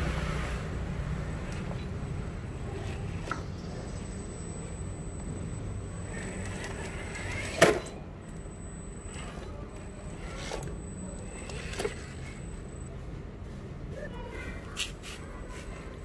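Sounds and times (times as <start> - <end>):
rc truck motor rumble: 0.0 - 13.9
faint high whine: 1.1 - 14.0.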